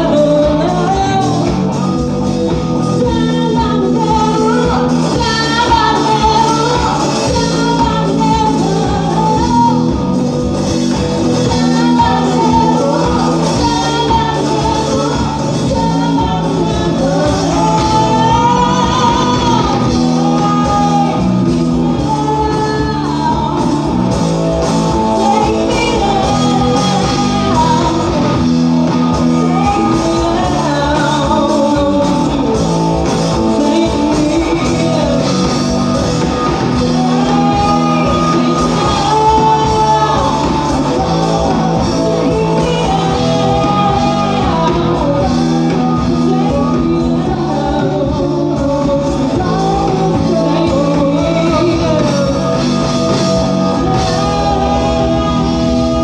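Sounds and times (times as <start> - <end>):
live rock band playing: 0.0 - 56.0
woman singing lead: 0.0 - 56.0.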